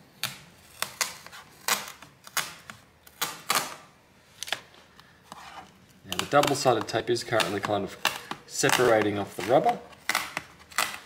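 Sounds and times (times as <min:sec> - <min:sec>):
adhesive tape crackling as peeled: 0:00.2 - 0:04.7, 0:06.0 - 0:11.0.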